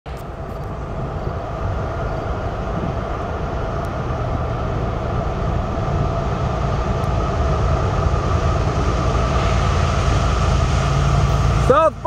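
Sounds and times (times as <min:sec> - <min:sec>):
diesel locomotives rumbling: 0:00.1 - 0:12.0.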